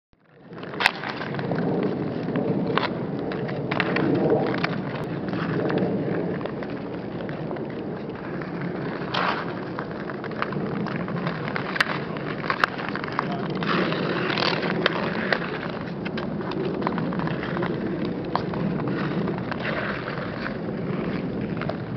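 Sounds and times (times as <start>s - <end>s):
outdoor rushing noise: 0.3s - 21.9s.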